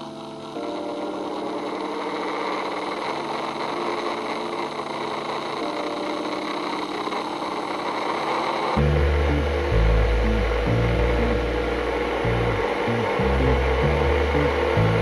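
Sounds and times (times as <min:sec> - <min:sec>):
electric motor whirring hum: 0:00.0 - 0:15.0.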